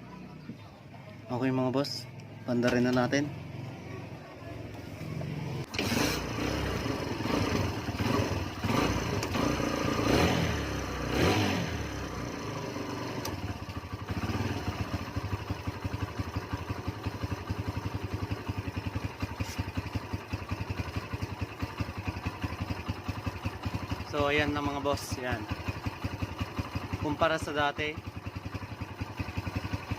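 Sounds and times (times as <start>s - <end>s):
motorcycle engine revving and idling: 0.0s - 29.9s.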